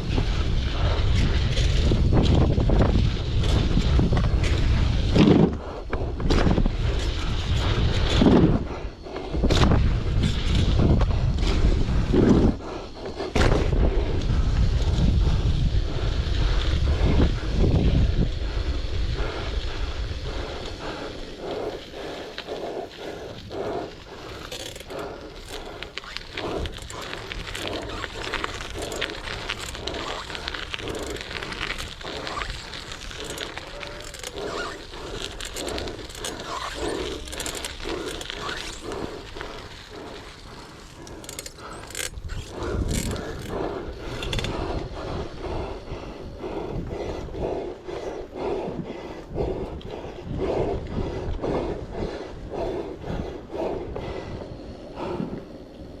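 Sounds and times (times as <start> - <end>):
bike riding on dirt: 0.0 - 56.0.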